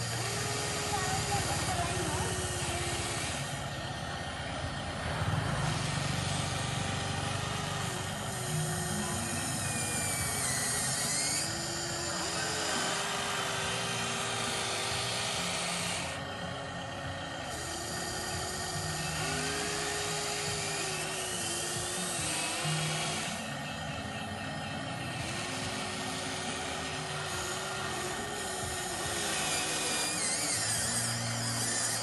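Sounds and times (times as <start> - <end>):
small electric motors whining: 0.0 - 32.0.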